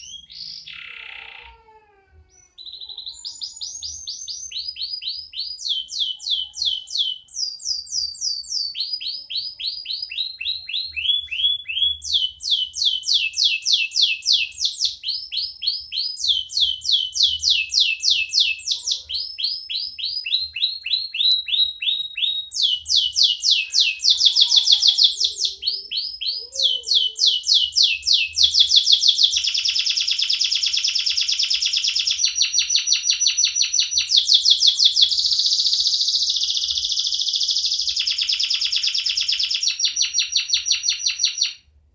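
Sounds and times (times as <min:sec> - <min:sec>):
canary singing: 0:00.0 - 0:41.7.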